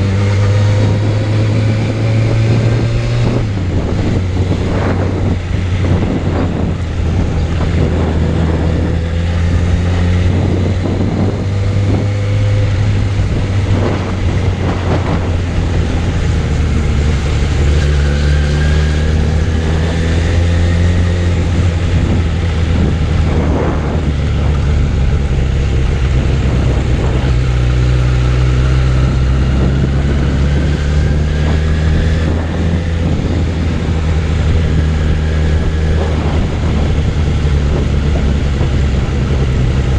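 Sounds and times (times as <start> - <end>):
motorbike engine running: 0.0 - 39.9
wind noise on microphone: 0.0 - 39.9.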